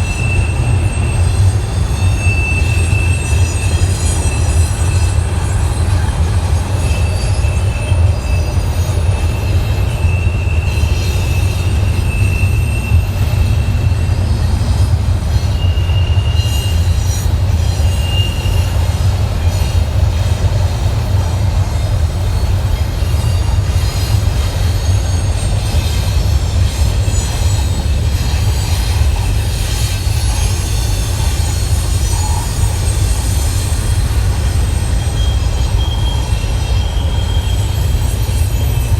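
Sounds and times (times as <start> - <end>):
freight train rumbling past: 0.0 - 38.9
high wheel squeals: 0.0 - 38.9.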